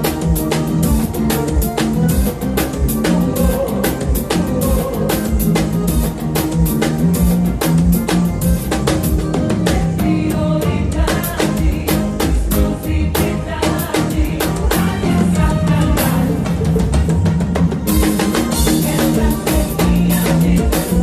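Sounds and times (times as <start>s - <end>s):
band music: 0.0s - 21.0s
bass line: 0.0s - 21.0s
drum kit playing: 0.0s - 21.0s.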